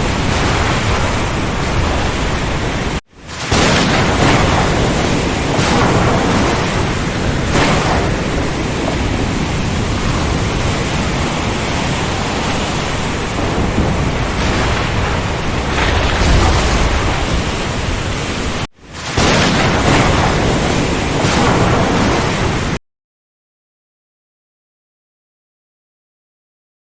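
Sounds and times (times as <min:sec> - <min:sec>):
heavy rain: 0:00.0 - 0:22.8.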